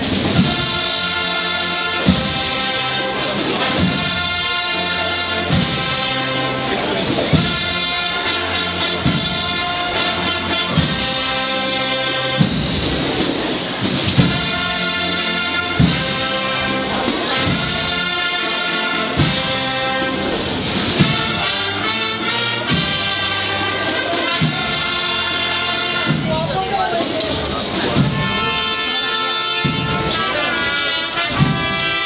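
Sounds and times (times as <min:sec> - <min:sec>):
brass band playing a slow march: 0:00.0 - 0:32.0
heavy drum strokes: 0:00.0 - 0:32.0.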